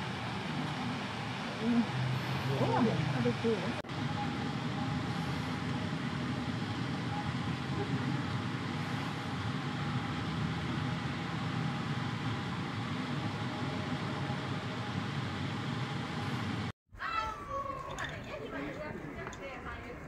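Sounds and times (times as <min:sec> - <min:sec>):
background rumble and hiss: 0:00.0 - 0:16.7
faint hum: 0:00.0 - 0:20.0.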